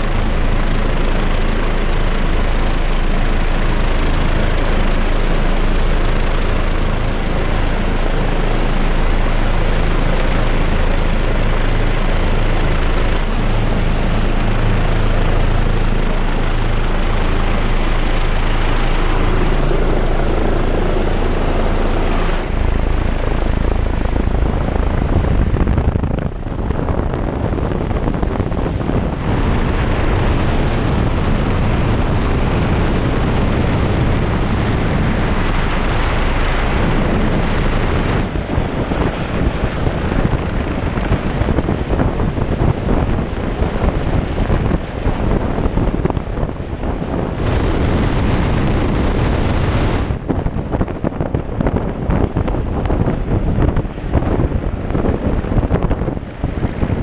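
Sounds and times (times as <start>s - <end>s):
downwash buffeting microphone: 0.0s - 57.0s
helicopter rotor and engine: 0.0s - 57.0s.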